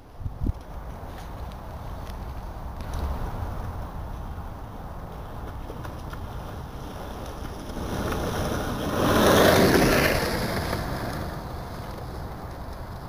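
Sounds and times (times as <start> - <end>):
longboard wheels rolling on asphalt: 0.0 - 13.0
wind rumble on microphone: 0.0 - 13.0.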